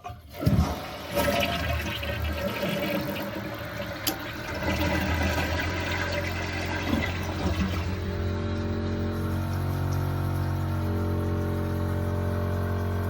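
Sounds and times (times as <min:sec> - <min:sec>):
toilet flushing: 0:00.0 - 0:13.0.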